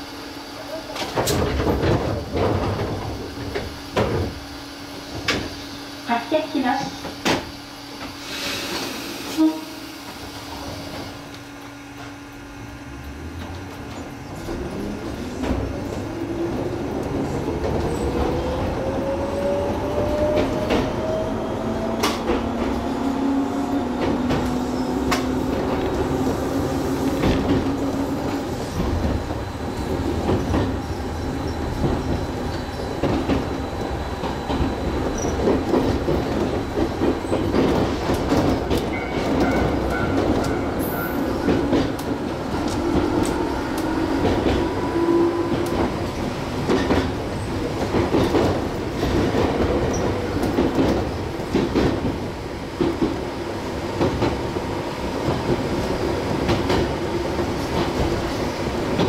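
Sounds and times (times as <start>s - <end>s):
steady train hum: 0.0s - 59.0s
train wheel and rail noise: 0.0s - 59.0s.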